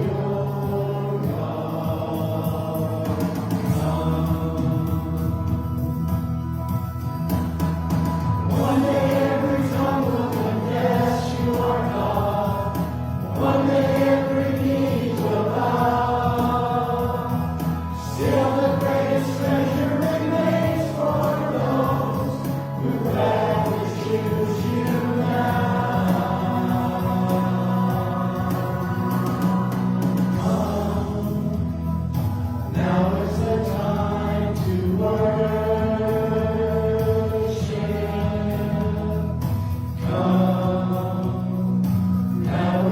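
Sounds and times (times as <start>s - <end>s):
group singing a hymn: 0.0s - 6.6s, 8.4s - 42.9s
instrumental accompaniment: 0.0s - 42.9s.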